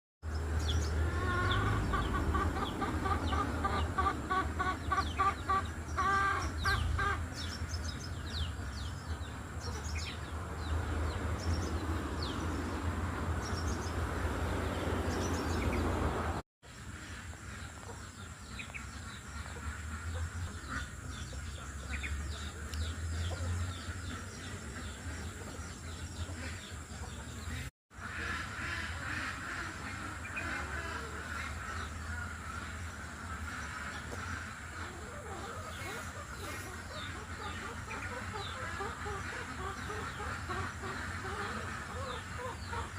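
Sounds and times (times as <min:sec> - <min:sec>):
chickens clucking: 0:00.7 - 0:11.8, 0:16.8 - 0:42.9.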